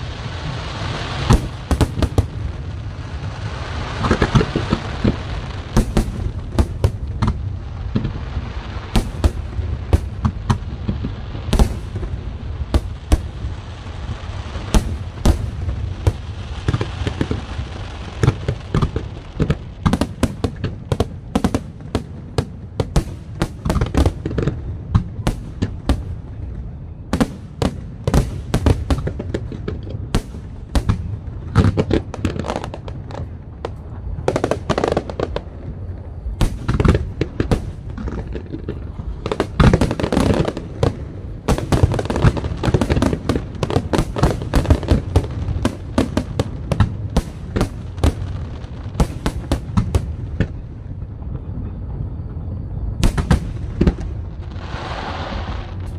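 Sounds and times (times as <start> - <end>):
fireworks bangs and crackles: 0.0 - 55.9.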